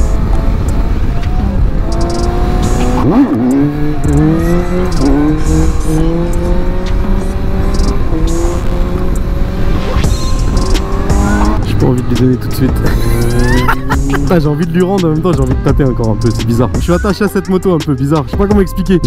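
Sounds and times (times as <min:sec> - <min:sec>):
motorcycle engine accelerating: 0:00.0 - 0:17.6.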